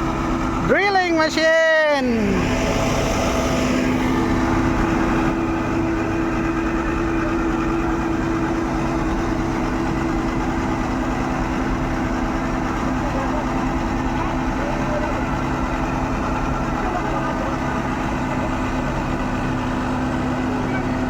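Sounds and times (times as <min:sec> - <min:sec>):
diesel engine idling: 0:00.0 - 0:21.0
steady whine: 0:00.0 - 0:21.0.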